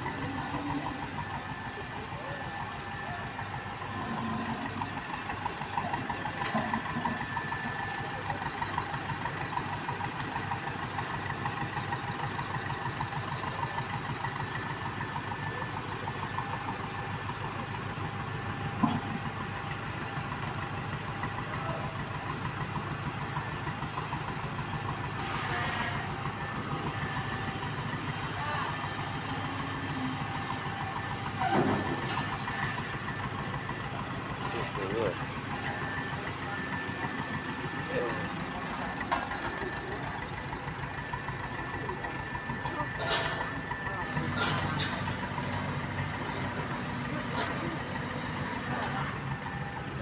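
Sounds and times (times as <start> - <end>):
heavy engine chugging: 0.0 - 50.0.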